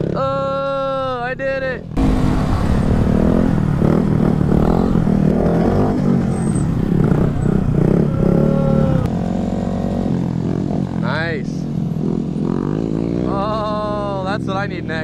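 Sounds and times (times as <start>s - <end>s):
small motorcycle engines revving: 2.0s - 15.0s.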